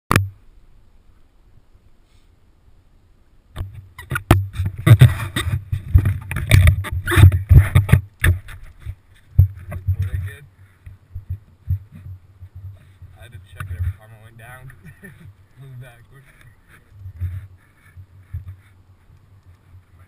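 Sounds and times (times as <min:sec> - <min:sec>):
camera rubbing against wetsuit: 0:03.6 - 0:20.0.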